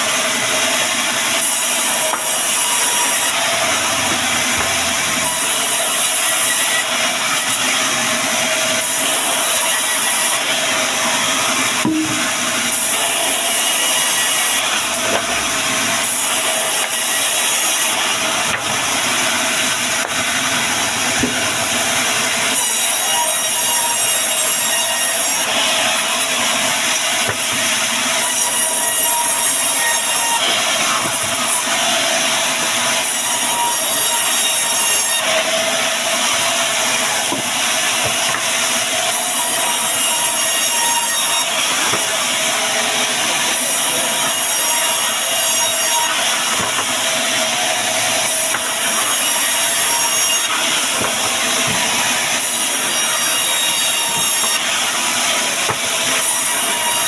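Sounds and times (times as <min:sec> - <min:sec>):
band saw cutting timber: 0:00.0 - 0:57.0.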